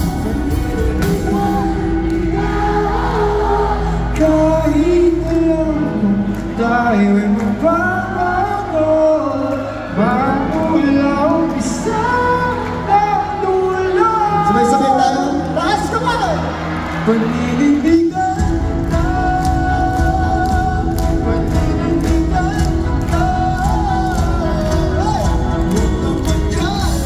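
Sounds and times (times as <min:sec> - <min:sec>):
live pop band with singing: 0:00.0 - 0:27.0.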